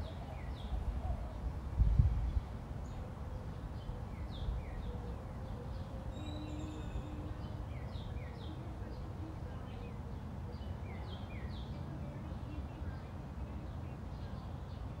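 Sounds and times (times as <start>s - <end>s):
birds chirping: 2.2s - 15.0s.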